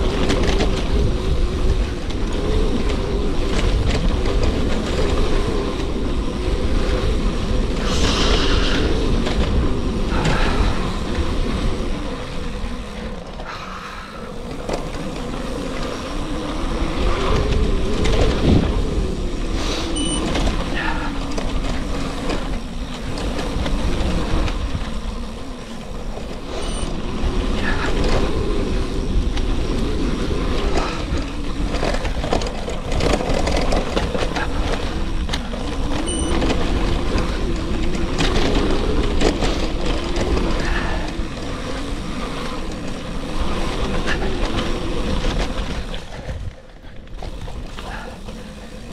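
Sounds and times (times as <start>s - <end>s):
hum rising and falling: 0.0s - 46.8s
bike tyres rolling on gravel: 0.0s - 48.9s
wind rushing over microphone: 0.0s - 48.9s.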